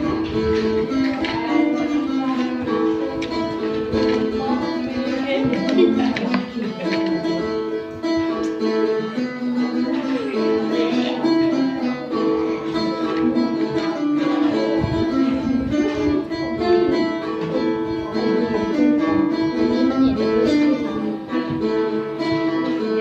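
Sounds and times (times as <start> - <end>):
plucked lute melody: 0.0 - 23.0.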